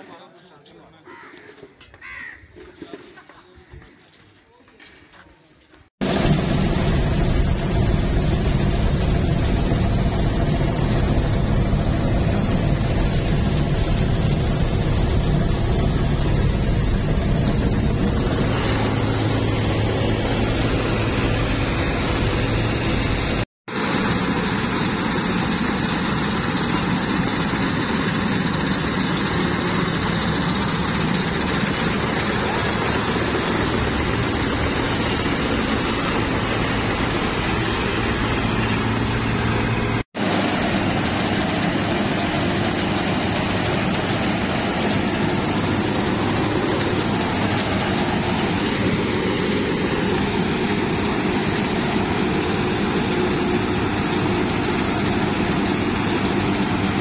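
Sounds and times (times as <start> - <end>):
combine harvester droning: 6.0 - 57.0.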